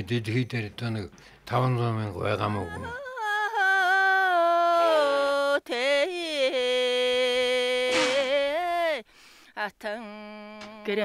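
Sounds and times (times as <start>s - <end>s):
person singing unaccompanied: 2.2s - 11.0s.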